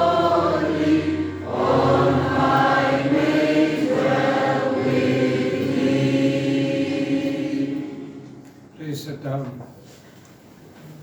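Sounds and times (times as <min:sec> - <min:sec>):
congregation singing a hymn: 0:00.0 - 0:08.9.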